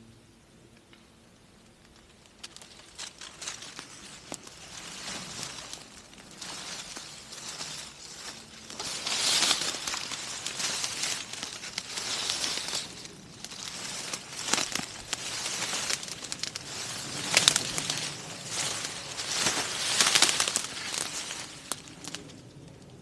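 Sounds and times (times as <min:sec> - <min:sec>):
twigs snapping: 0:01.8 - 0:22.9
footsteps crunching dry leaves: 0:02.0 - 0:22.7.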